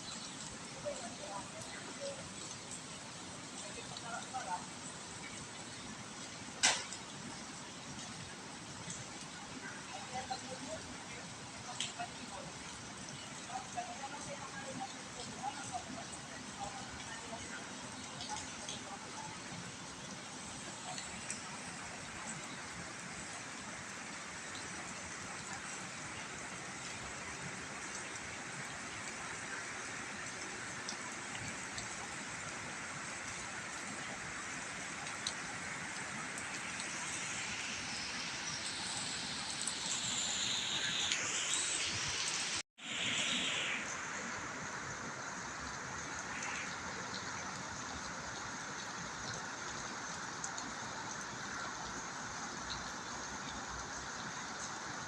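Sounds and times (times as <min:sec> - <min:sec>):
raindrop ticks: 0:00.0 - 0:41.6, 0:44.9 - 0:55.0
heavy rain falling: 0:00.0 - 0:55.0.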